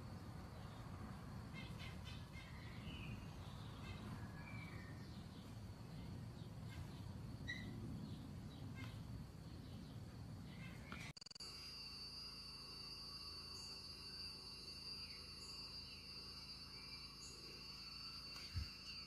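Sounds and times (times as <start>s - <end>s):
low steady rumble: 0.0s - 19.0s
faint bird chirps: 1.5s - 11.8s, 13.2s - 19.0s.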